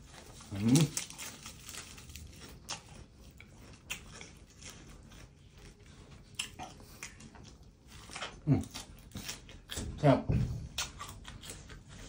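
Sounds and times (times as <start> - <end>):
person chewing crisp lettuce: 0.0 - 12.0.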